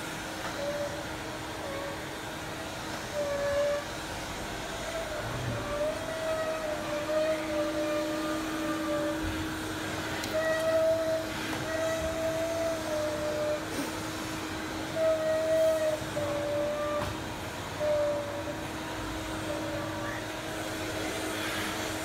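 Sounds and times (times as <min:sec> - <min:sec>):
vacuum cleaner humming: 0:00.0 - 0:22.0
whistling tone from hose: 0:00.4 - 0:22.0.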